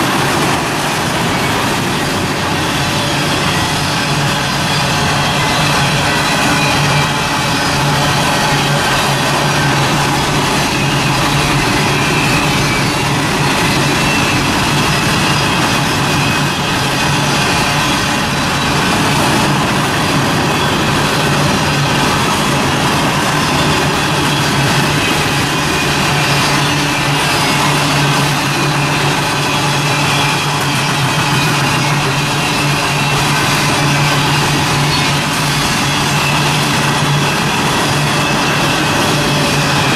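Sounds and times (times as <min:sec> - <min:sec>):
freight train rumble: 0:00.0 - 0:39.9
low diesel engine hum: 0:00.0 - 0:39.9.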